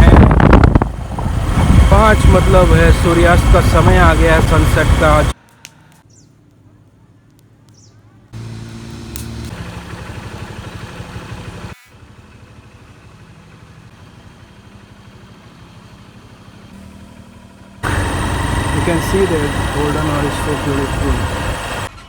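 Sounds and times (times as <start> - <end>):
motorcycle engine running: 0.0 - 5.4, 8.4 - 21.9.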